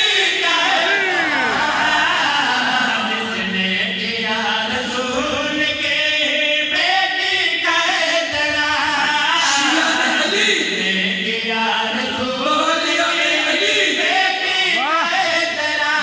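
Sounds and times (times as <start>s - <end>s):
men chanting into microphones: 0.0s - 16.0s.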